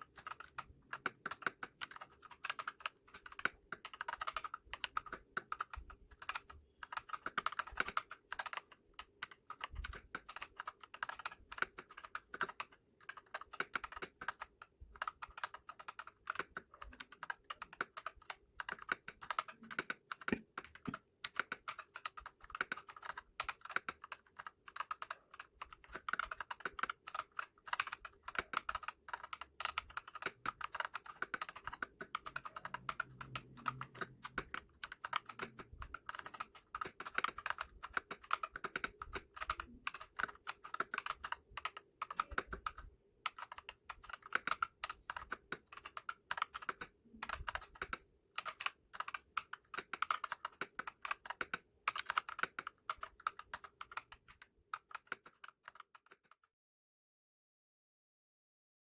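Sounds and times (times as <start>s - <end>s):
mechanical keyboard typing: 0.0s - 56.4s.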